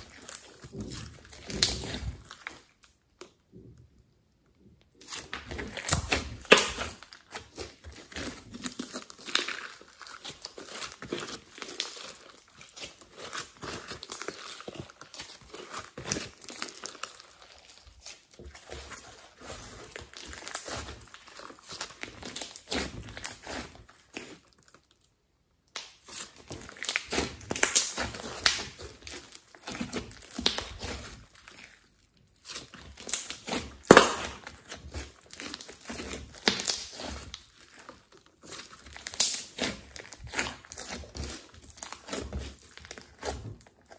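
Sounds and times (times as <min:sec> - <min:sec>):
sticky slime crackling and tearing: 0:00.0 - 0:03.8, 0:04.9 - 0:43.9.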